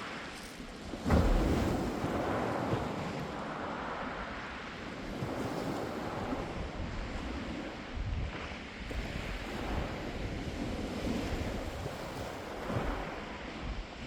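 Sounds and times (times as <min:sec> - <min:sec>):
waves breaking on pebble beach: 0:00.0 - 0:14.0.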